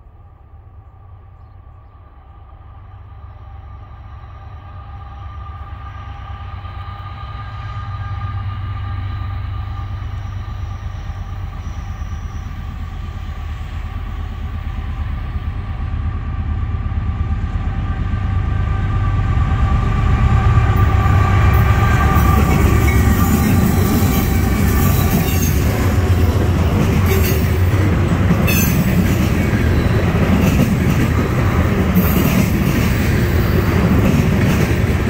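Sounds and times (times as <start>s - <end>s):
locomotive rumble with whine: 0.0s - 35.0s
train wheel noise: 1.8s - 35.0s.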